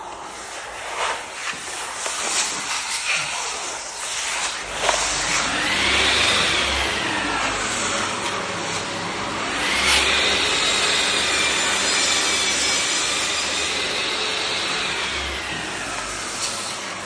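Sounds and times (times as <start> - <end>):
floor sanding machine grinding: 0.0 - 17.0.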